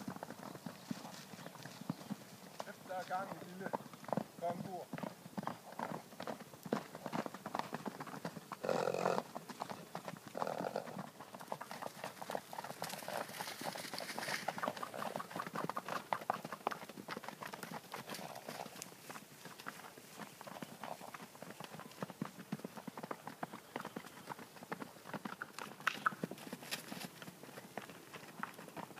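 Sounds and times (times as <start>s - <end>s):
horses galloping on grass: 0.0s - 28.9s.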